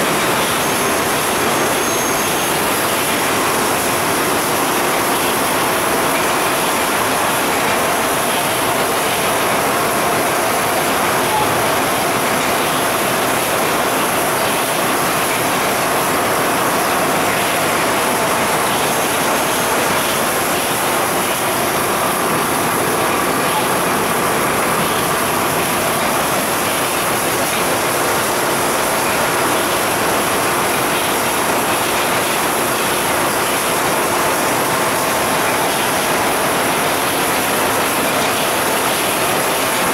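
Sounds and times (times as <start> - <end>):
canning line machinery clatter: 0.0 - 39.9.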